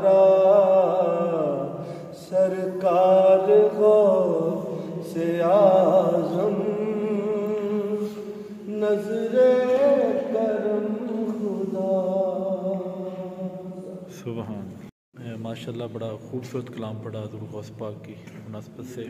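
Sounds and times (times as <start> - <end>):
man chanting devotional poem: 0.0 - 19.0.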